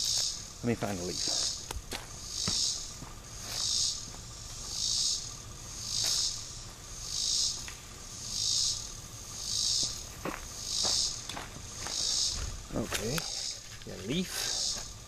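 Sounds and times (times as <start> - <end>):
faint steady whine: 0.0 - 15.0
insect buzzing in pulses: 0.0 - 15.0.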